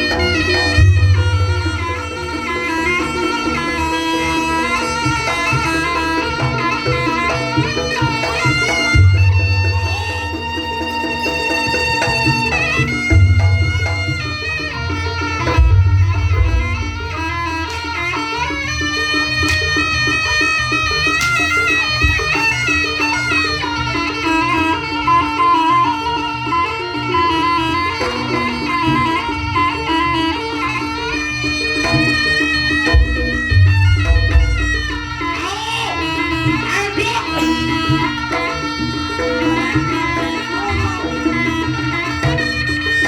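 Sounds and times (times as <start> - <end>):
drumming: 0.0 - 43.0
reedy shawm melody: 0.0 - 43.0.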